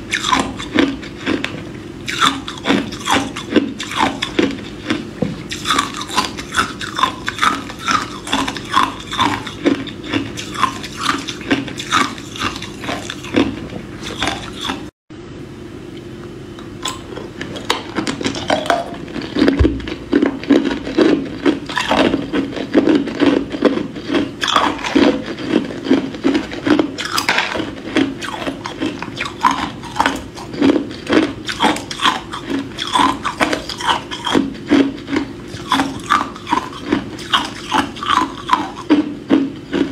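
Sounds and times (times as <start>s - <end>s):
ice cubes crunched in mouth: 0.1s - 14.9s, 16.8s - 39.0s.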